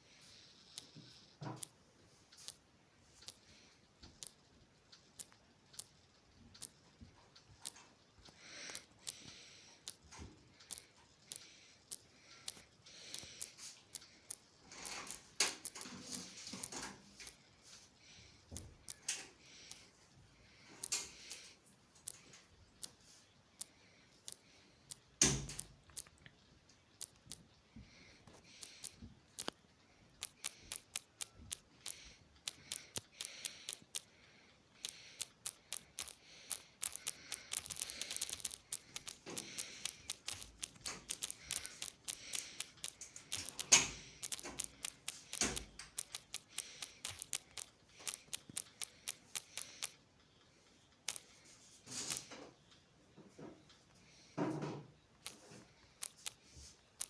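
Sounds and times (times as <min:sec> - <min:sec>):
small irregular clicks and snaps: 0:00.0 - 0:57.0.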